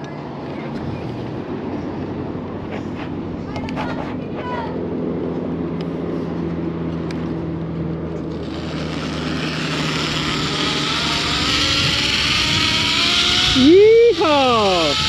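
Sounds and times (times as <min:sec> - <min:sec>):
zipline trolley humming on cable: 0:00.0 - 0:15.0.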